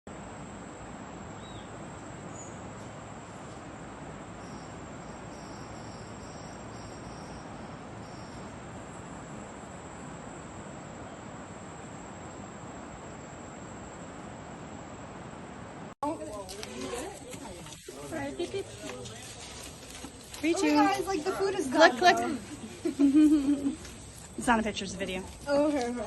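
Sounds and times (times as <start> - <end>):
insects droning: 0.1 - 26.0
outdoor hiss: 0.1 - 26.0.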